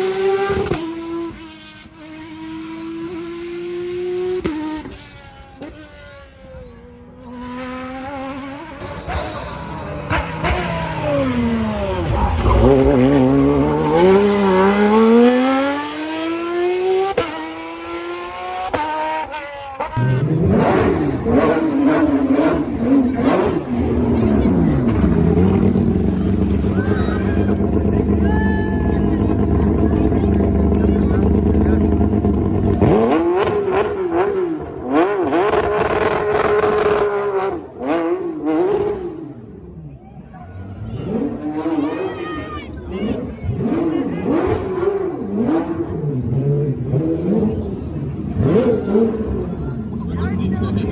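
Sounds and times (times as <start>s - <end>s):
car engine accelerating: 0.0s - 50.9s.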